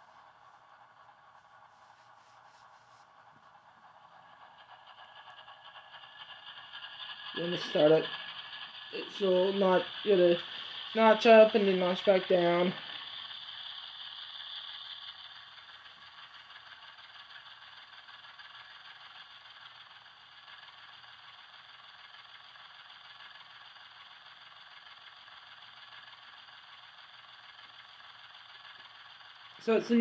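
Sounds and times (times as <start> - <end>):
hiss: 0.0 - 30.0.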